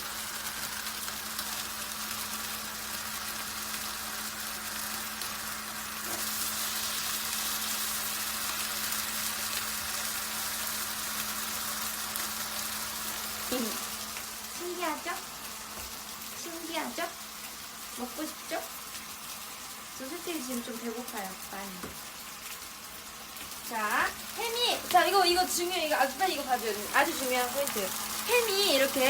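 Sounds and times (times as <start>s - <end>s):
ham sizzling in a pan: 0.0s - 29.0s.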